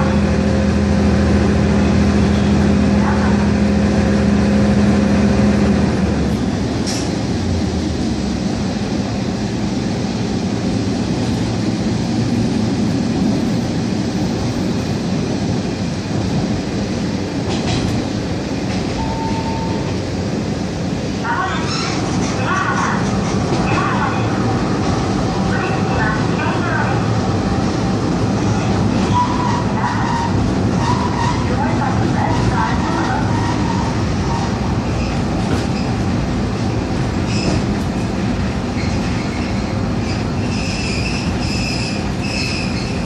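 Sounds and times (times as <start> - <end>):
railcar diesel engine droning: 0.0 - 43.0
wheels rumbling on rails: 0.0 - 43.0.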